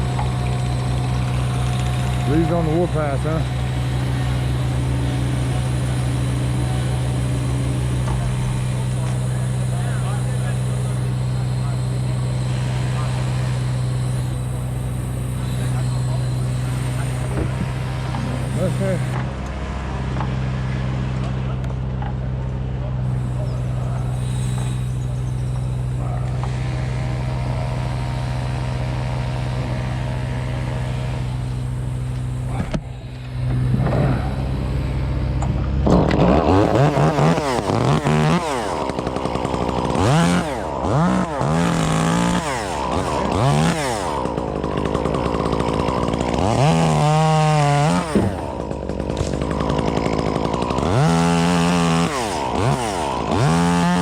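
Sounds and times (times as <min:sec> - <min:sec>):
chainsaw revving: 0:00.0 - 0:22.0, 0:22.8 - 0:54.0
small engine running: 0:00.0 - 0:54.0.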